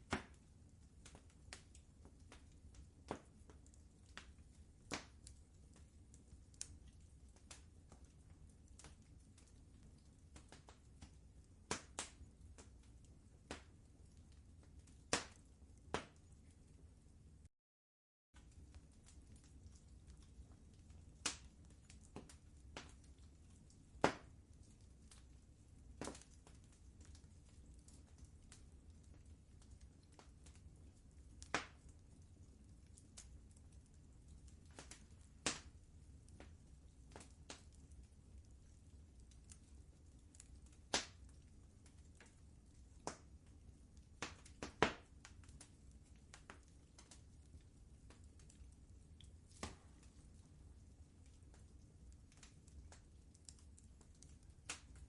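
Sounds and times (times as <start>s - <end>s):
wood fire crackling: 0.0s - 17.5s, 18.4s - 55.0s.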